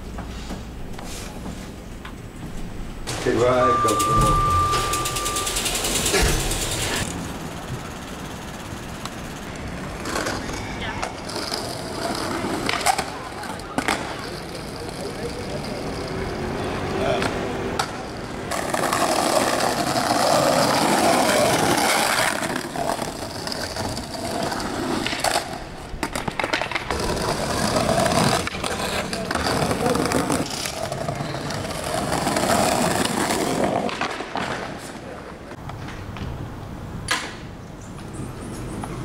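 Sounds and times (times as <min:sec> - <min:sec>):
skateboard wheels rolling on pavement: 0:04.6 - 0:39.0.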